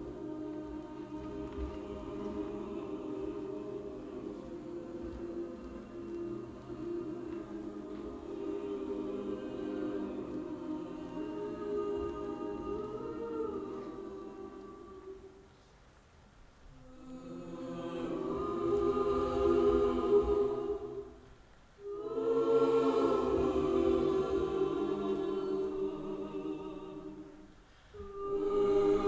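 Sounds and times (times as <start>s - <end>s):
choir singing held chords: 0.0s - 15.6s, 16.7s - 29.0s.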